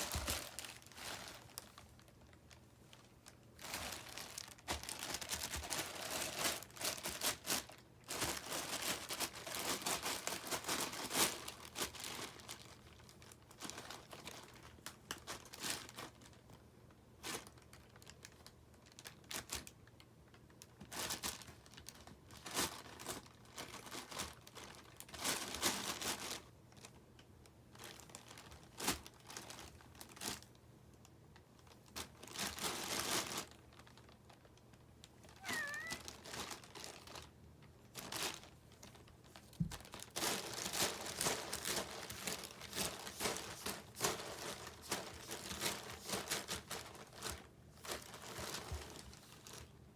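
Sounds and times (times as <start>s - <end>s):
plastic wrapper crinkling: 0.0s - 16.6s, 17.2s - 27.0s, 27.7s - 30.6s, 31.6s - 49.8s.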